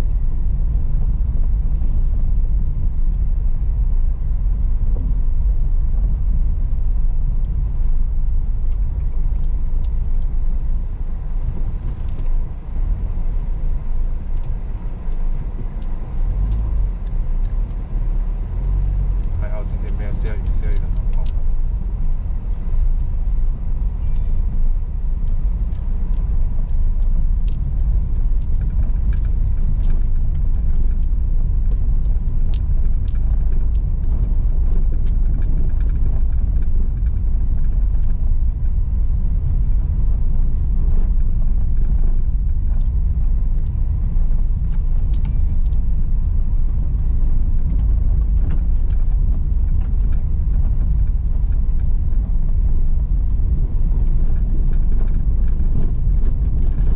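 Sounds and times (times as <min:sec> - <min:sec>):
gravel clicks and ticks: 0:00.0 - 0:56.9
tyres rumbling on rocky road: 0:00.0 - 0:56.9.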